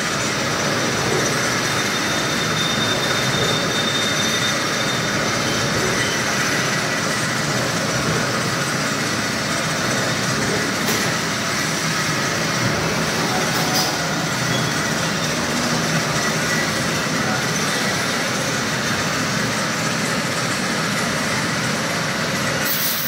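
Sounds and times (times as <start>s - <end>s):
machine shop lathes running: 0.0s - 23.0s.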